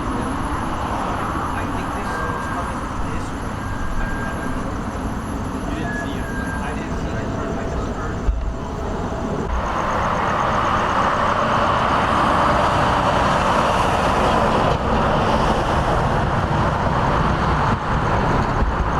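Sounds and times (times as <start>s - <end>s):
rushing noise: 0.0s - 18.9s.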